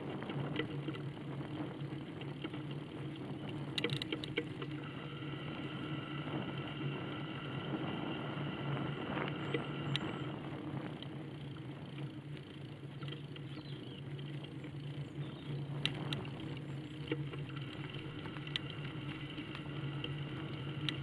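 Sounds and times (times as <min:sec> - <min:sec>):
high steady whine: 0:00.0 - 0:21.0
motor hum: 0:00.0 - 0:21.0
vehicle rattling on tarmac: 0:00.0 - 0:21.0.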